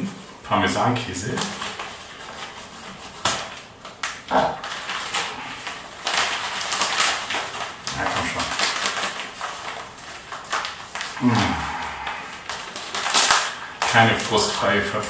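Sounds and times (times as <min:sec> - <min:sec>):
plastic packet tearing and crackling: 0:01.4 - 0:15.0.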